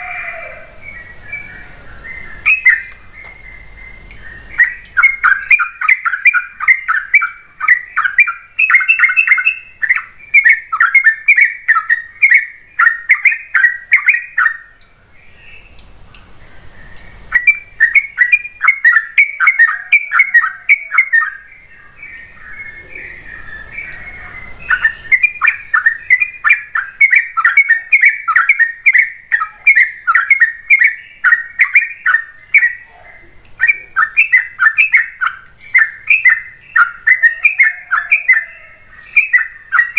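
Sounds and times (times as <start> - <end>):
bulbul chattering song: 0.0 - 15.8, 16.6 - 39.9.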